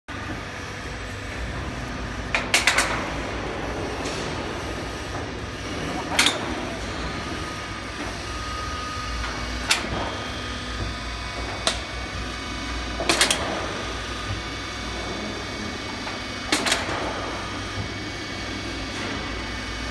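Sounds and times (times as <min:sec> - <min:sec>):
machine humming: 0:00.1 - 0:19.9.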